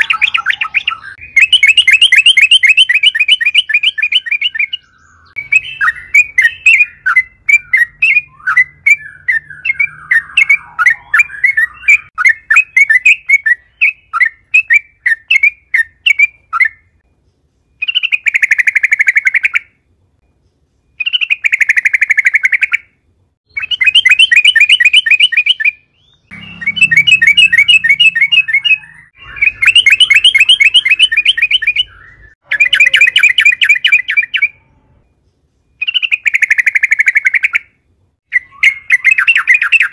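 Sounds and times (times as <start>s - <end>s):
bird calling with bubbly chatter: 0.0s - 17.0s, 17.7s - 19.8s, 20.6s - 35.0s, 35.8s - 39.9s.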